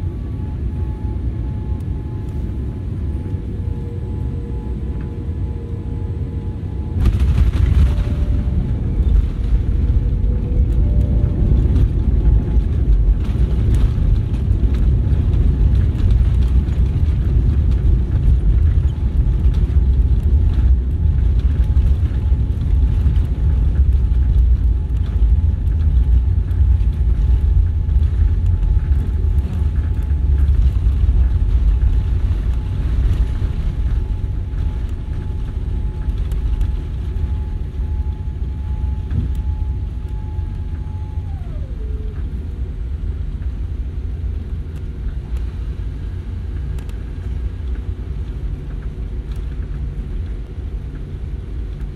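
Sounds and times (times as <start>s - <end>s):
jet engines and wheels rumbling: 0.0s - 51.9s.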